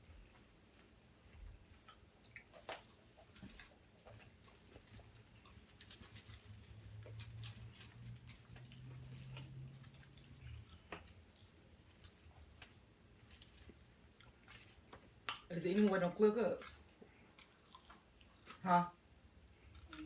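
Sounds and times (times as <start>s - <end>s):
chewing and handling food: 0.0s - 20.0s
low steady hum: 0.0s - 20.0s.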